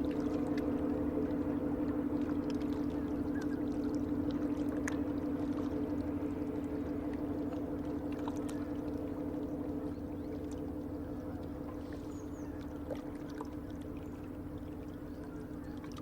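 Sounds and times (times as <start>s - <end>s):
ship diesel engine drone: 0.0s - 16.0s.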